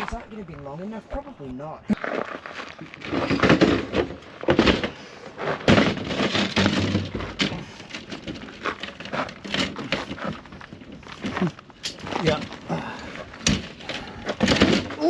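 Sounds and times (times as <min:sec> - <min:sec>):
crunching and cracking: 0:01.9 - 0:15.0.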